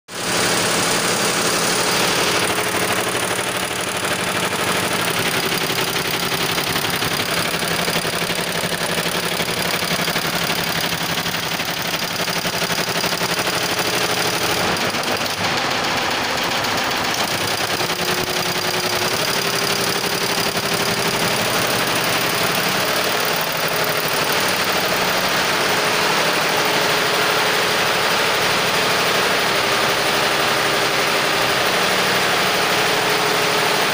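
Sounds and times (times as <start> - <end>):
embroidery machine clattering: 0.2 - 33.9.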